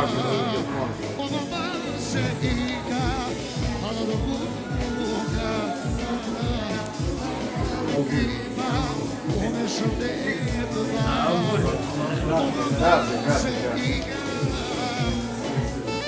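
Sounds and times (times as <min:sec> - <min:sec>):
ornamented wavering vocal: 0:00.0 - 0:16.0
steady beat: 0:00.0 - 0:16.0.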